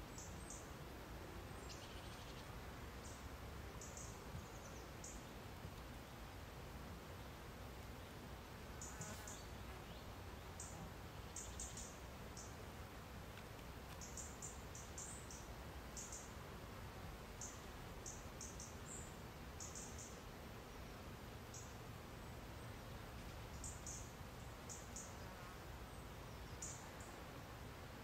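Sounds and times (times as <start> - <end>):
low steady hiss: 0.0 - 28.0.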